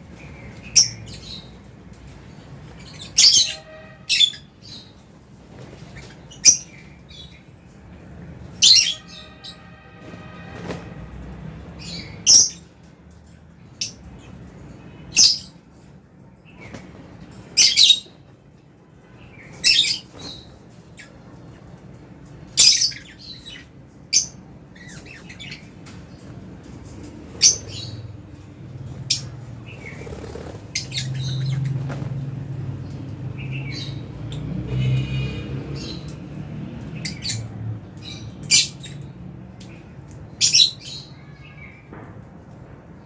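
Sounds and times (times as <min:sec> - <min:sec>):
lovebirds chirping and squawking: 0:00.0 - 0:12.9, 0:13.6 - 0:42.6.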